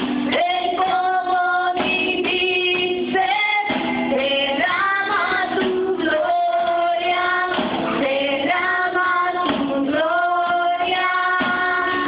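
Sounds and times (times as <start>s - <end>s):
women singing a hymn: 0.3s - 12.0s.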